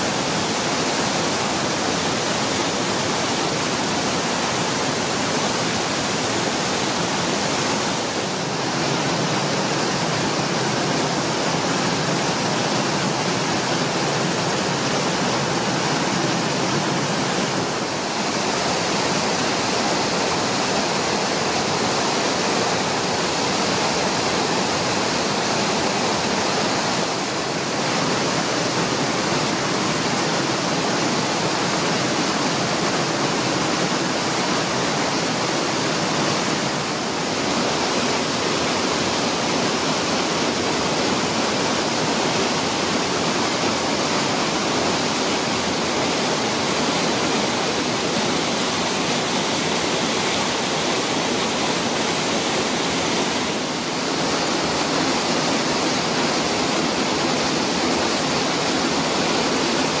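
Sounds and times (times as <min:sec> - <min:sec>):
waterfall rushing into pool: 0:00.0 - 1:00.0.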